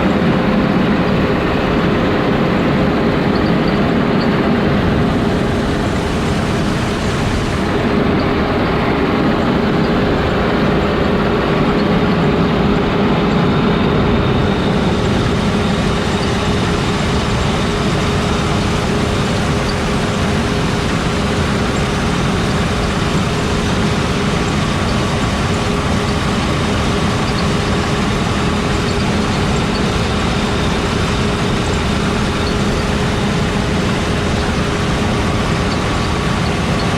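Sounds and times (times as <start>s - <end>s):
diesel engine drone: 0.0s - 36.9s
machinery whining: 0.0s - 36.9s.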